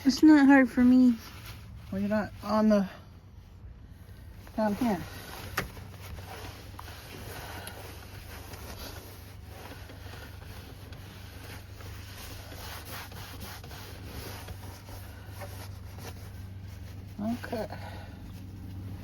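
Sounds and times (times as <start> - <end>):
cloth rubbing surfaces: 0.0 - 2.9, 4.4 - 19.0
low steady hum: 0.0 - 19.0.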